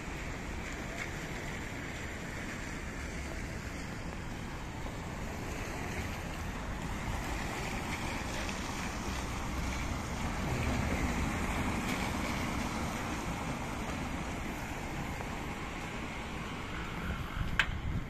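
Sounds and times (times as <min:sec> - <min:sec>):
rain: 0:00.0 - 0:18.0
wind rumbling on microphone: 0:00.2 - 0:18.0.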